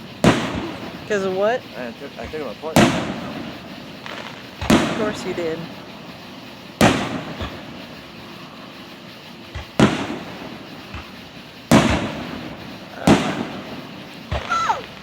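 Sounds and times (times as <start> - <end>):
faint firework pops: 0.0 - 15.0
firework shells booming: 0.0 - 15.0.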